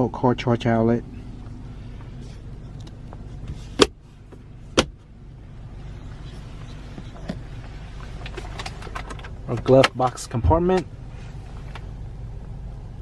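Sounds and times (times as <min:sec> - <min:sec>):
low cabin hum: 0:00.0 - 0:13.0.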